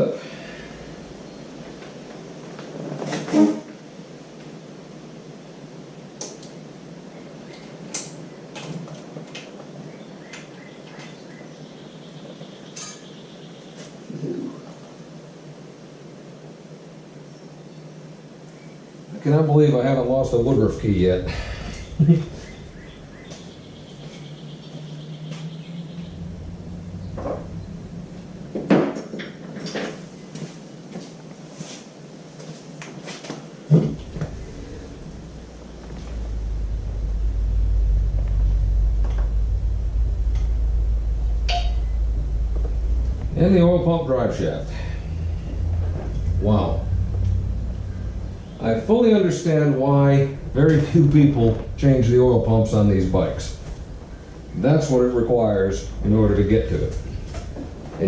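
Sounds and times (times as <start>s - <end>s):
low background hum: 3.9s - 30.6s, 33.6s - 58.0s.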